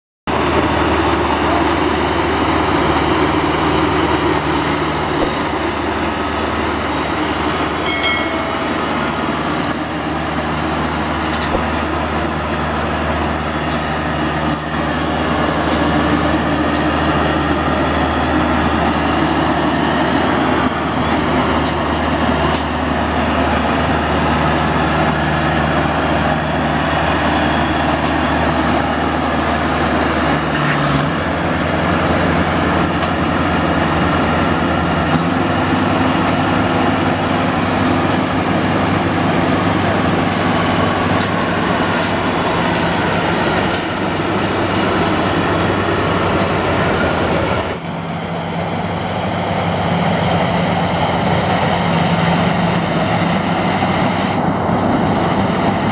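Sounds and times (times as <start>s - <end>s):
combine harvester engine running: 0.3s - 55.9s.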